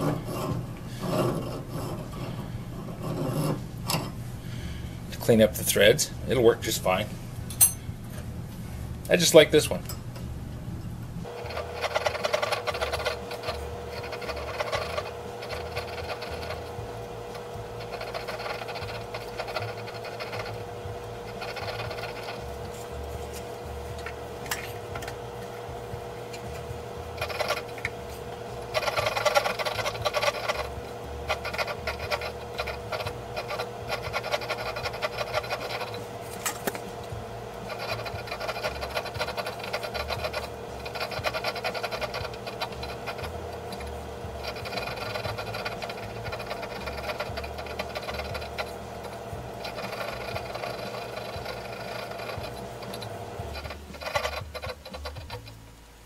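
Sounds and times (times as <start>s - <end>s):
file scraping steel threads: 0.0s - 4.2s, 11.2s - 55.6s
faint steady hum: 0.0s - 56.0s.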